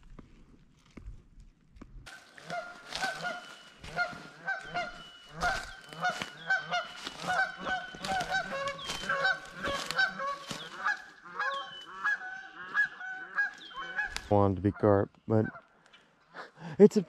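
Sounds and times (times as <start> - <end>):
waterfowl honking: 2.1 - 15.8.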